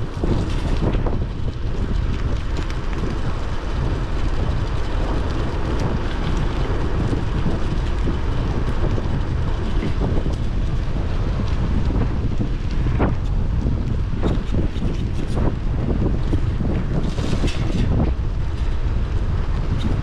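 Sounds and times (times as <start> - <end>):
bike clicks and rattles: 0.0 - 20.0
tyre and road noise: 0.0 - 20.0
wind buffeting microphone: 0.0 - 20.0.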